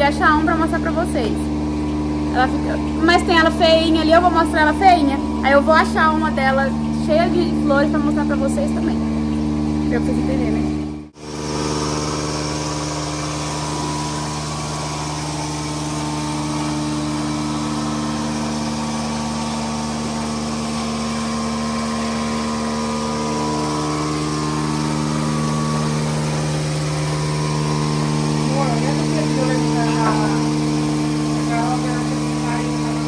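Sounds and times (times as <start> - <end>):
vacuum pump motor humming: 0.0 - 33.0.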